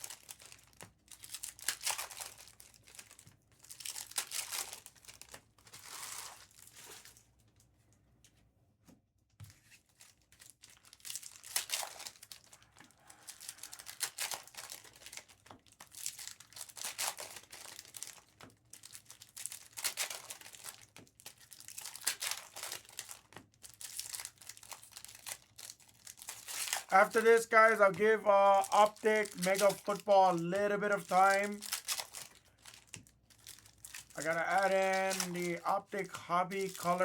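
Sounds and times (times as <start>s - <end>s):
foil wrappers tearing and crinkling: 0.0s - 7.2s, 9.9s - 37.0s.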